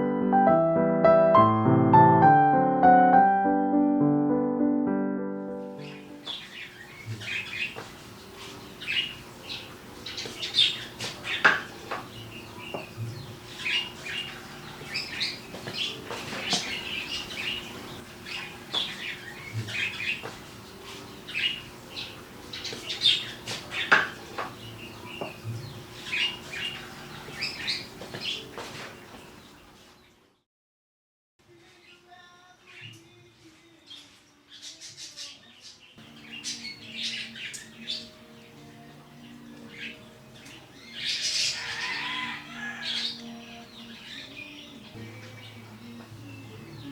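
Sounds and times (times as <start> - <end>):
small birds chirping: 5.8 - 30.2, 31.7 - 46.9.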